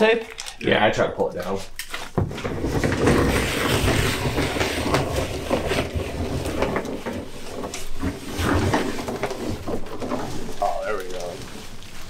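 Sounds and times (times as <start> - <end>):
plastic sheeting crinkling: 1.4 - 12.0.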